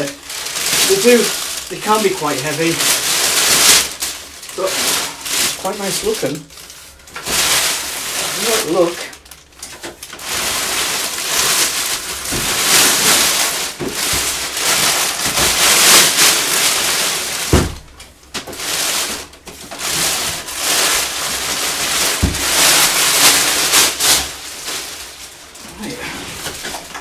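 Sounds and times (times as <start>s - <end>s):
plastic bag crinkling: 0.0s - 27.0s.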